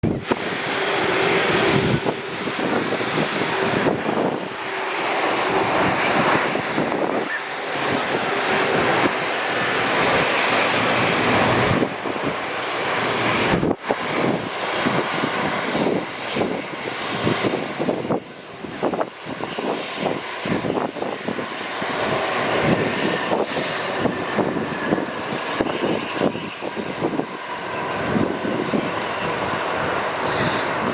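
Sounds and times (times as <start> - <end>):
jet engines roaring: 0.0 - 30.9.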